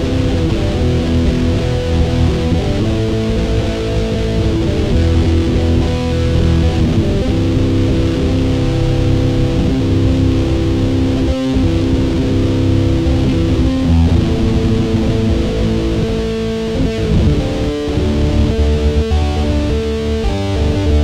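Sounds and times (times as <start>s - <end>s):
electric guitar chords: 0.0s - 21.0s.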